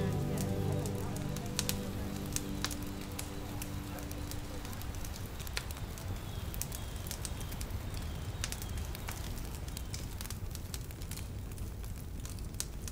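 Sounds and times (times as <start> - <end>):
fire crackling: 0.0 - 12.9
low fire rumble: 0.0 - 12.9.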